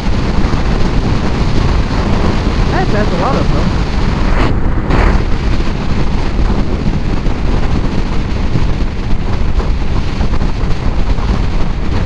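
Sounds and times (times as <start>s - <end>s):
motorcycle engine and road noise: 0.0s - 12.0s
wind buffeting microphone: 0.0s - 12.0s.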